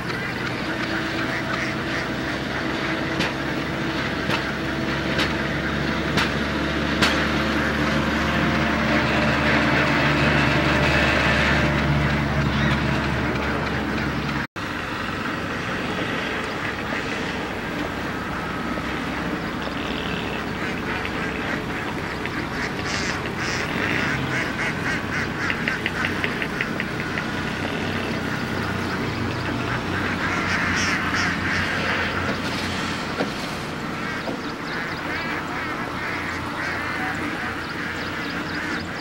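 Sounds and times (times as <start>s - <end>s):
ducks quacking: 0.0s - 39.0s.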